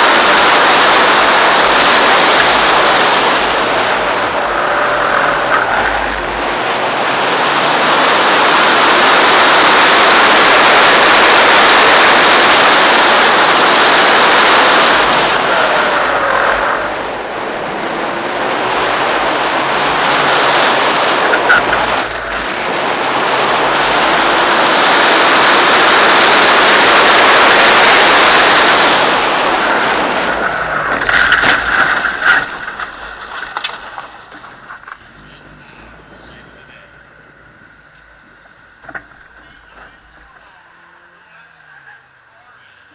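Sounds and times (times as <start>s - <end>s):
rushing wind and road noise: 0.0s - 41.0s
car engine revving faintly: 0.0s - 42.5s.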